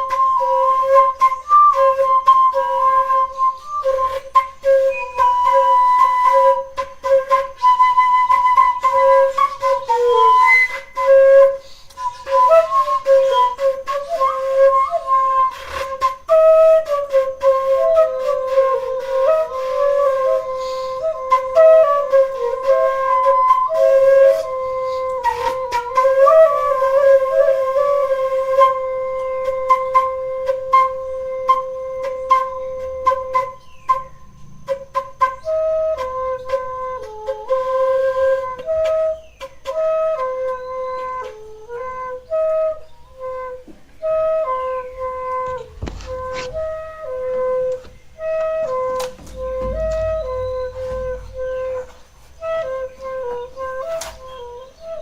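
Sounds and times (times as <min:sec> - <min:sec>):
flute-like wind instrument melody: 0:00.0 - 0:55.0.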